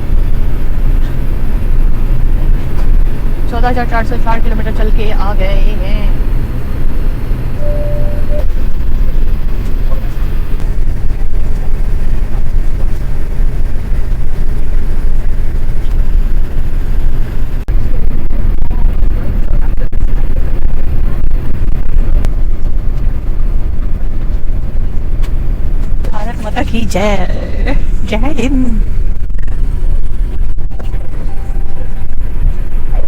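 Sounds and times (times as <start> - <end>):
airliner engines rumbling: 0.0 - 33.0.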